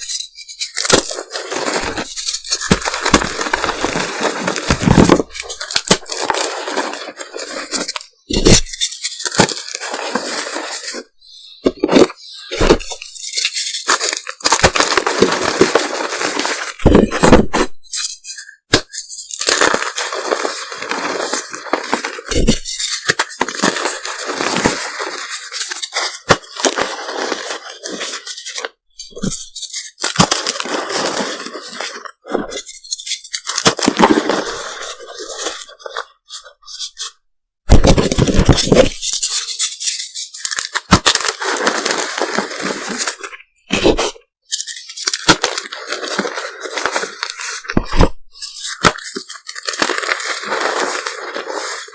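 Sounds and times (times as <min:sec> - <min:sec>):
chalk crushing and crunching: 0:00.0 - 0:51.9.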